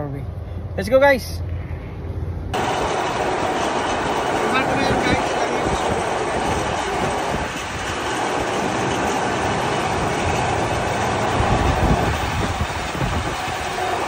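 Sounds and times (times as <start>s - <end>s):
machinery rumbling clatter: 2.6s - 14.0s
wind buffeting microphone: 2.6s - 14.0s.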